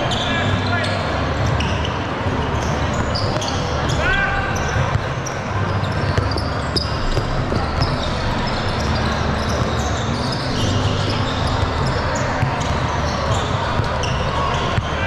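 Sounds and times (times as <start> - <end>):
crowd voices: 0.0 - 15.0
sneaker squeaks: 0.0 - 15.0
basketballs bouncing: 1.0 - 15.0.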